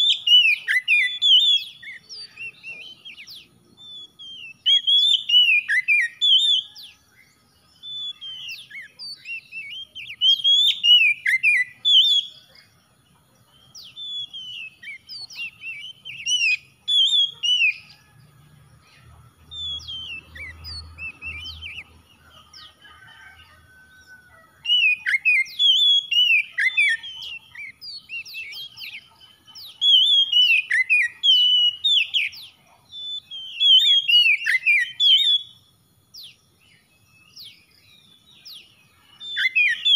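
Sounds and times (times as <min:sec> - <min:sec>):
bird singing whistles and chirps: 0:00.0 - 0:12.8, 0:13.4 - 0:23.3, 0:23.9 - 0:39.9.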